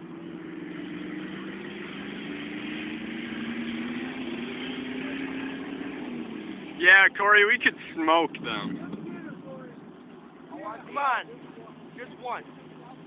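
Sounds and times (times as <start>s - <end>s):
pickup truck engines: 0.0s - 13.0s.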